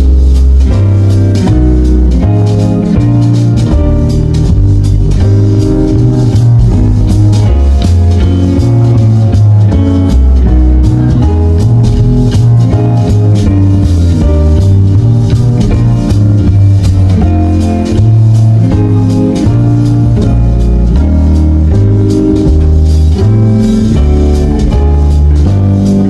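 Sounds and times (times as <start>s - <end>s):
bass line: 0.0s - 26.0s
steady drum beat: 0.0s - 26.0s.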